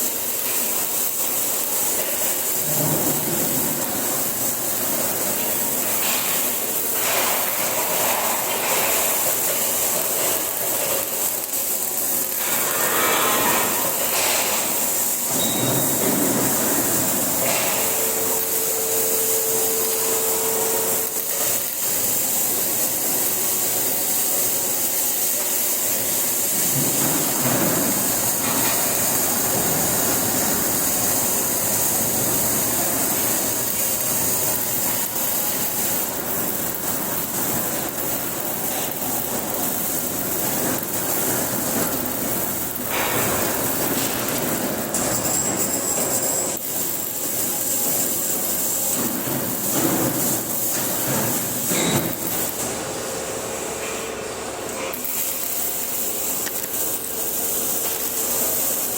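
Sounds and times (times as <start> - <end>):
welding arc crackling: 0.0 - 58.9.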